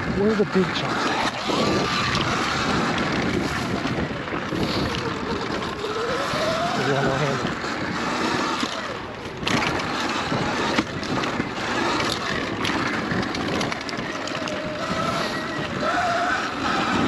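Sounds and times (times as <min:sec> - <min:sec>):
electric motor whine: 0:00.0 - 0:17.0
wind rushing over microphone: 0:00.0 - 0:17.0.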